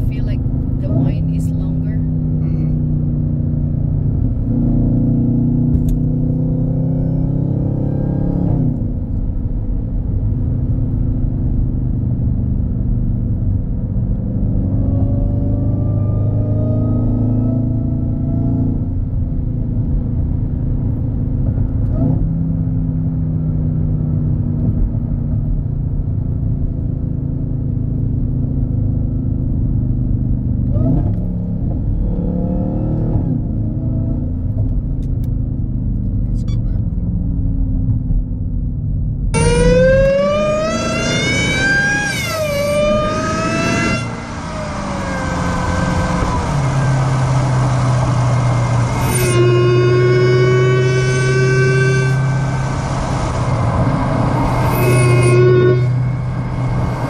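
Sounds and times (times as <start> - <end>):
car engine rumbling: 0.0 - 57.0.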